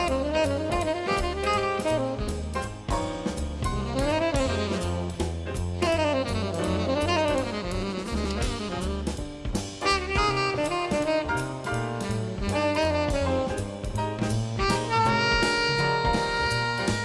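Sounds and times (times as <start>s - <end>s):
tenor saxophone melody: 0.0s - 3.0s, 3.6s - 17.0s
bass: 0.0s - 17.0s
piano comping: 0.0s - 17.0s.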